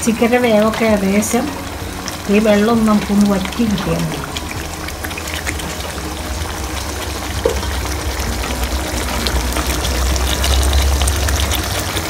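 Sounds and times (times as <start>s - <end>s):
gravy simmering with popping bubbles: 0.0s - 12.0s.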